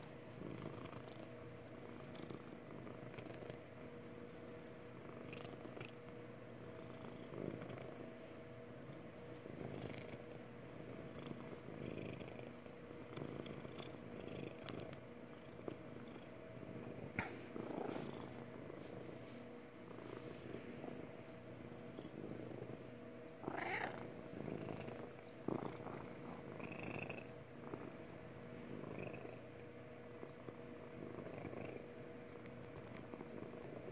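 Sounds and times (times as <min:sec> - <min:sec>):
cat purring: 0:00.3 - 0:33.9.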